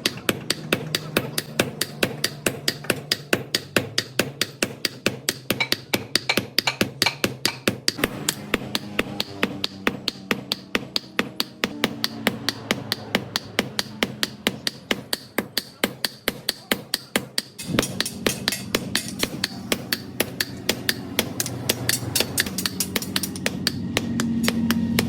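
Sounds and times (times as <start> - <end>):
hammer striking steel: 0.0 - 25.0.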